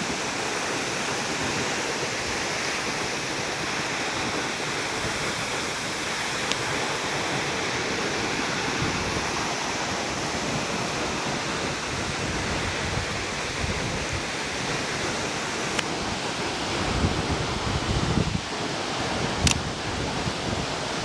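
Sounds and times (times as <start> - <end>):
waterfall rushing: 0.0 - 17.7.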